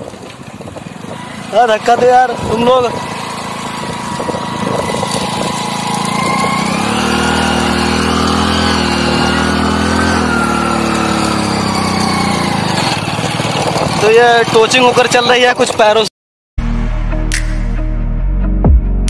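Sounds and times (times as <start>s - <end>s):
motorcycle engine running: 0.0s - 16.0s
road and wind noise: 0.0s - 16.1s.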